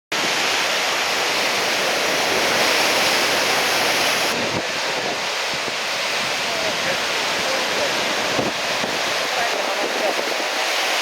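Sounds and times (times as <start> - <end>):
heavy surf breaking: 0.1 - 11.0
wind noise on microphone: 1.3 - 11.0.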